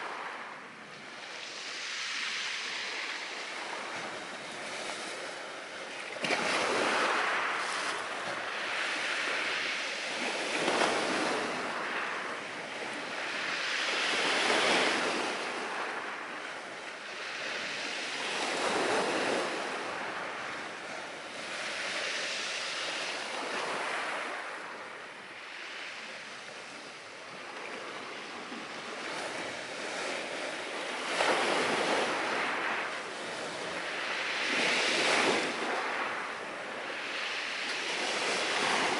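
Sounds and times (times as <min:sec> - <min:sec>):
sea waves washing ashore: 0:00.0 - 0:38.9.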